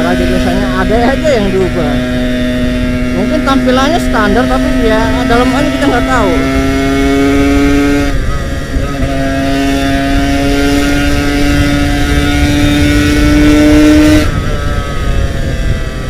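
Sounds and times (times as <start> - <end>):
motorcycle engine under throttle: 0.0 - 16.0
wind noise rumble: 0.0 - 16.0.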